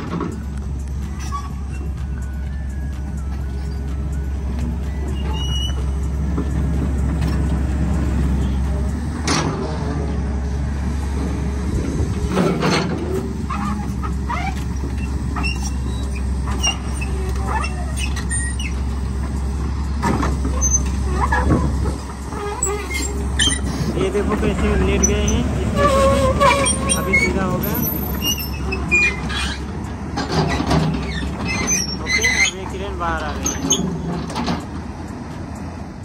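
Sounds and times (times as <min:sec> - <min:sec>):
metal clanks and squeals on rubble: 0:00.0 - 0:10.2, 0:12.2 - 0:34.9
excavator diesel engine running: 0:00.0 - 0:36.0.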